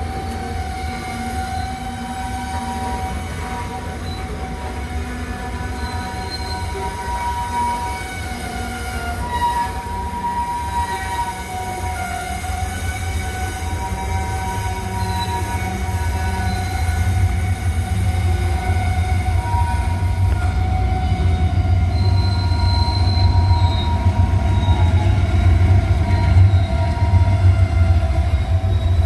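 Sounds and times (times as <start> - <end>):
freight train rumbling past: 0.0 - 29.0
train wheels squealing: 0.0 - 29.0.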